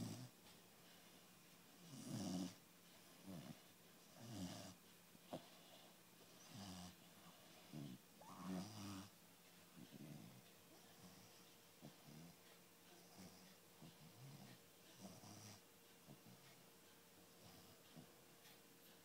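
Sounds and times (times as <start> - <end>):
puppy snoring softly: 0.0 - 0.4, 1.8 - 9.2, 9.8 - 16.6, 17.4 - 18.1.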